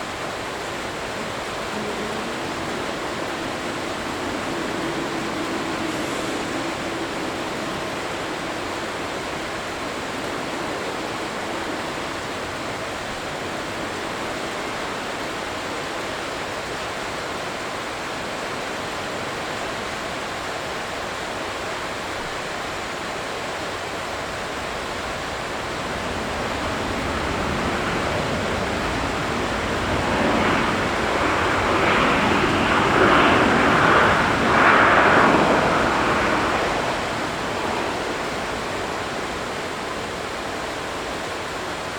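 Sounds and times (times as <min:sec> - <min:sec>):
jet airliner engines roaring: 0:00.0 - 0:41.9.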